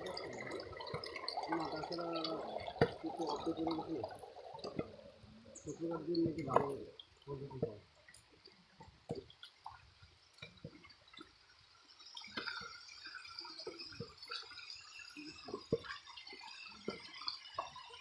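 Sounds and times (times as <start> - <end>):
water dripping and trickling: 0.0 - 18.0
water rushing: 0.0 - 18.0.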